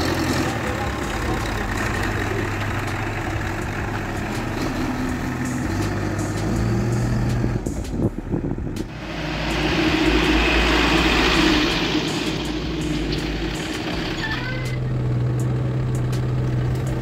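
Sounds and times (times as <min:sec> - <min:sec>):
backhoe diesel engine: 0:00.0 - 0:17.0
truck passing by: 0:00.0 - 0:17.0.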